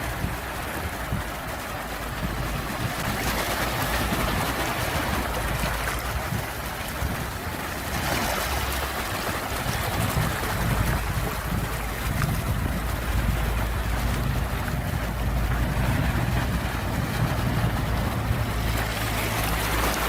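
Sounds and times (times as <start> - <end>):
sea waves surf rushing: 0.0 - 20.0.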